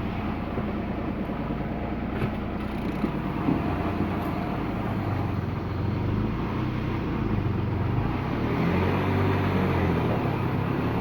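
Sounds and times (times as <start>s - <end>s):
car engine low hum: 0.0s - 11.0s.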